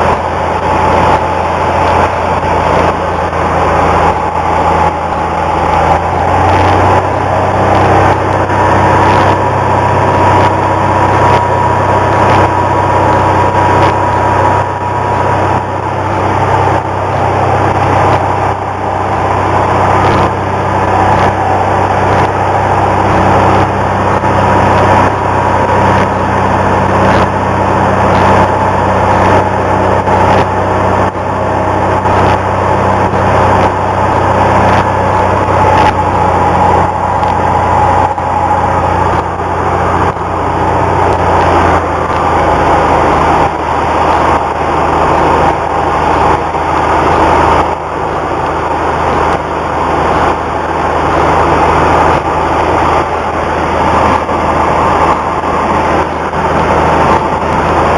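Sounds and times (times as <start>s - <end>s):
propeller plane engine drone: 0.0s - 57.9s
rushing air noise: 0.0s - 57.9s.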